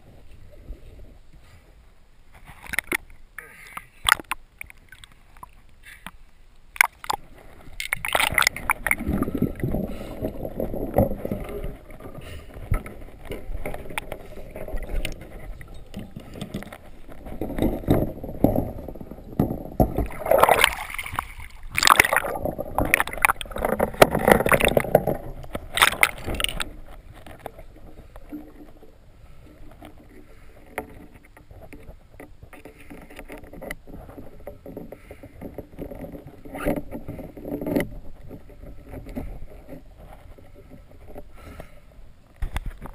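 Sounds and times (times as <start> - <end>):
muffled underwater wash: 0.0 - 42.9
water sloshing and gurgling: 0.0 - 42.9.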